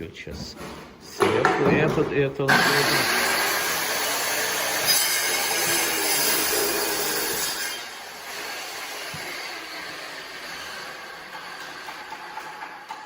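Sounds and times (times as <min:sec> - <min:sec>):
background noise: 0:00.0 - 0:13.0
power tool grinding stone: 0:02.5 - 0:13.0.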